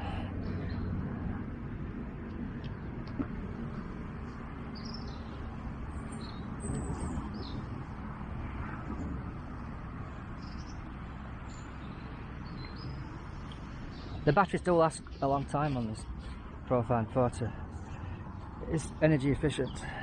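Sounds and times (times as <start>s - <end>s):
small birds chirping: 0.0s - 1.0s, 2.6s - 7.9s, 9.5s - 20.0s
low outdoor rumble: 0.0s - 20.0s.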